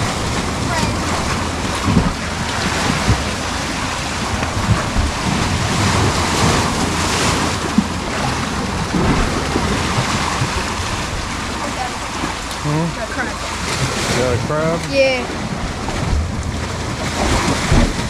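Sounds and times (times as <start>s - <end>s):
surf splashing on rocks: 0.0s - 18.0s
wind buffeting microphone: 0.0s - 18.0s.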